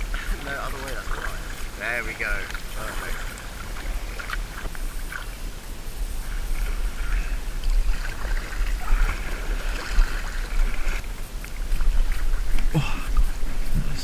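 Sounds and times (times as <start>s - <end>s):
water splashing around kayak: 0.0s - 14.0s
wind rumble on microphone: 0.0s - 14.0s.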